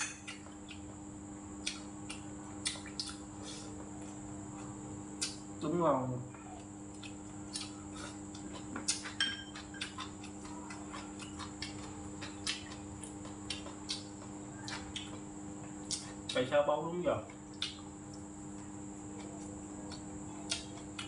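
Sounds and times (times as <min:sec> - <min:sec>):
faint hum: 0:00.0 - 0:21.0
chewing: 0:01.6 - 0:05.4, 0:06.5 - 0:16.4, 0:17.3 - 0:21.0.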